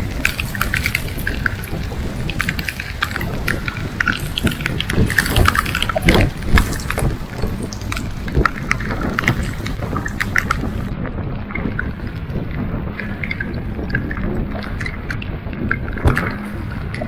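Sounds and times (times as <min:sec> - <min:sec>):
small ticks and clicks: 0:00.0 - 0:17.0
wind rumbling on microphone: 0:00.0 - 0:17.0.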